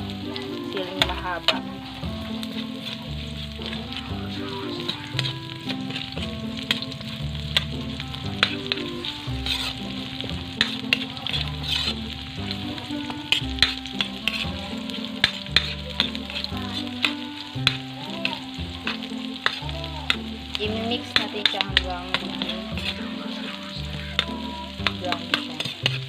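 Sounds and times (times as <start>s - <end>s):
food sizzling in hot oil: 0.0s - 26.0s
spatula scraping a pan: 0.2s - 26.0s.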